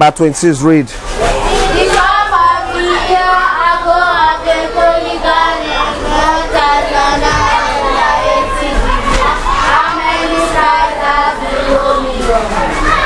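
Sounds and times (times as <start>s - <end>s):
students reading aloud in chorus: 1.0s - 13.0s.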